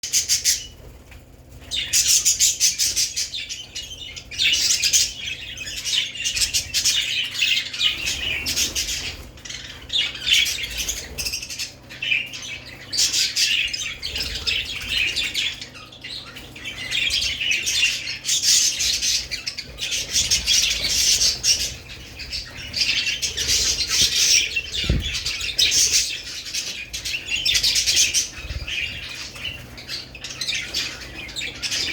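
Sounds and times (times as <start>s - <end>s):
budgerigars chattering and chirping: 0.0s - 31.9s
faint low hum: 0.0s - 31.9s.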